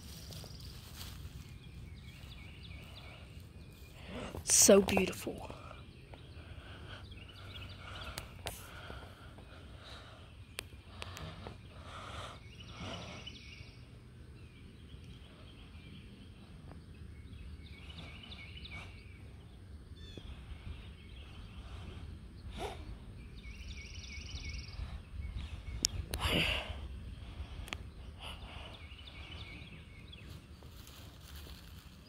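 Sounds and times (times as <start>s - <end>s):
bird chirping: 0.0s - 32.0s
wind rumble: 0.0s - 32.0s.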